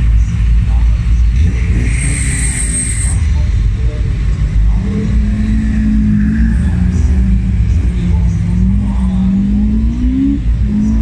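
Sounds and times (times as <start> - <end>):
race car engine rumbling: 0.0 - 11.0.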